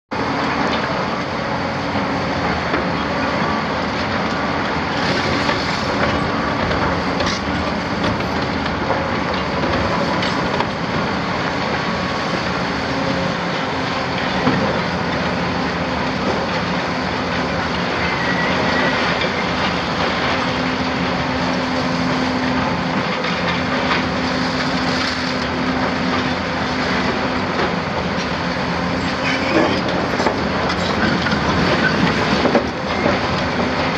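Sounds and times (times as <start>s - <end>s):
diesel engine running under load: 0.1s - 33.9s.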